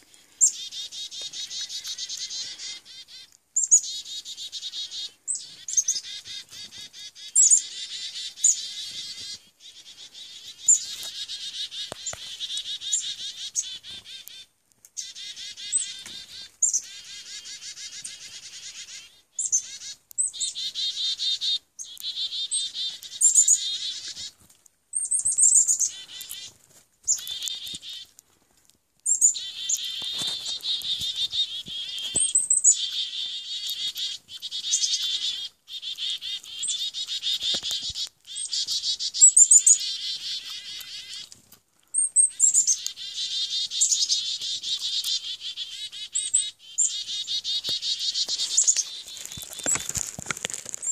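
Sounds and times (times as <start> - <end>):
chickadees calling: 0.0 - 28.2, 29.1 - 50.9.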